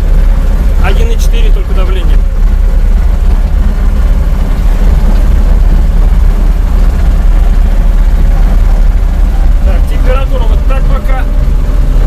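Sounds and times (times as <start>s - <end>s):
vehicle rumbling on dirt road: 0.0s - 12.0s.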